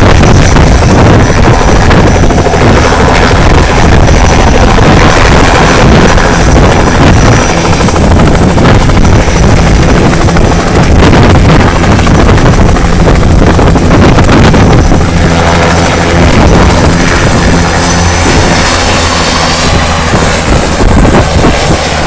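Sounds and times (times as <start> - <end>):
helicopter turbine and rotors: 0.0 - 22.0.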